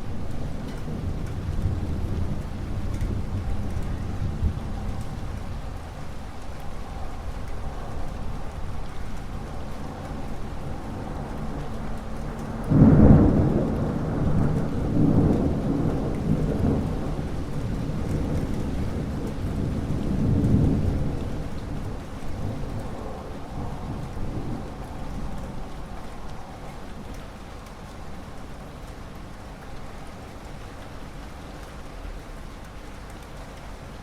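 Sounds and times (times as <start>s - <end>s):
thunder rumbling: 0.0s - 28.8s
steady rain: 0.0s - 34.0s.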